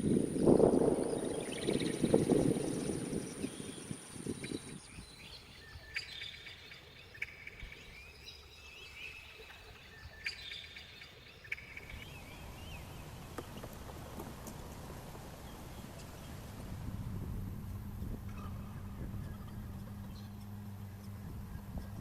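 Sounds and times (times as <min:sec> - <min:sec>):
faint outdoor background noise: 0:00.0 - 0:22.0
small birds chirping: 0:00.0 - 0:22.0.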